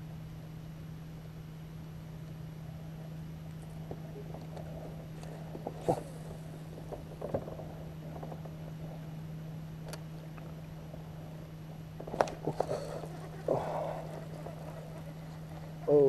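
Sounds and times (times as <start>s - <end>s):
low hum on boat: 0.0s - 16.0s.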